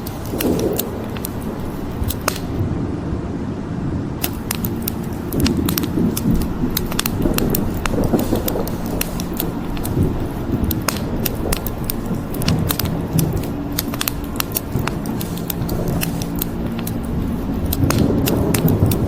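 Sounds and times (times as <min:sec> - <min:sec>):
wood fire crackling and popping: 0:00.0 - 0:02.6, 0:04.2 - 0:19.0
low steady rumble: 0:00.0 - 0:19.0.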